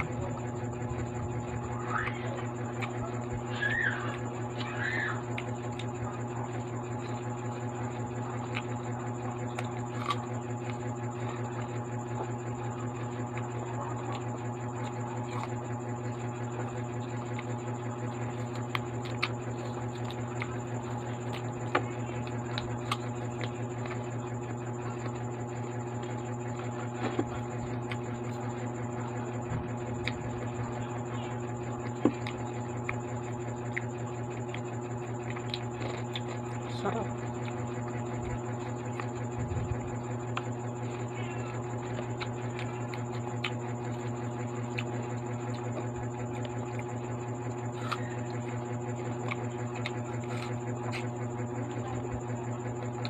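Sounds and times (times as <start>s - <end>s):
crunchy biting and chewing: 0.0s - 53.0s
steady low hum: 0.0s - 53.0s.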